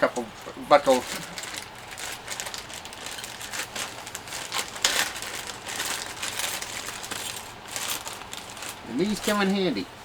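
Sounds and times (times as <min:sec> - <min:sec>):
hands rustling objects: 0:00.0 - 0:10.0.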